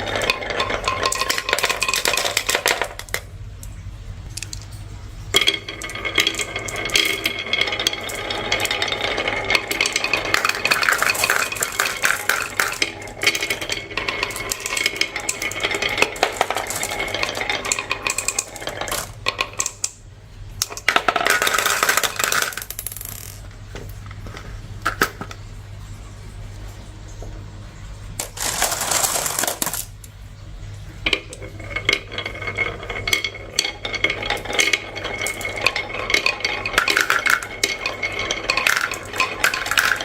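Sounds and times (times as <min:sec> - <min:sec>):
marbles rolling and clattering: 0:00.0 - 0:26.0, 0:28.2 - 0:40.0.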